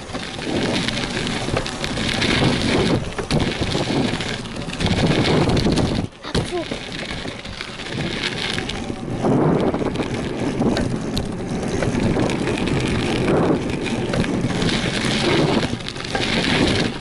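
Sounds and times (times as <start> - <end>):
tyres rolling over dirt: 0.0 - 17.0
wind buffeting microphone: 0.0 - 17.0.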